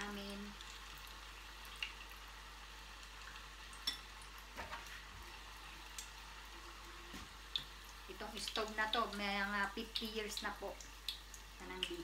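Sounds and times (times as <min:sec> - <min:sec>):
fritters sizzling in oil: 0:00.0 - 0:12.0.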